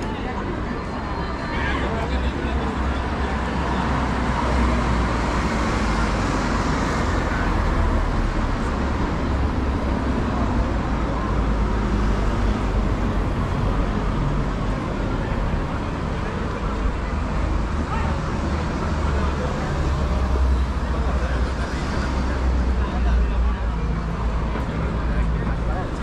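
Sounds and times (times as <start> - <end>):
cars driving along road: 0.0 - 26.0.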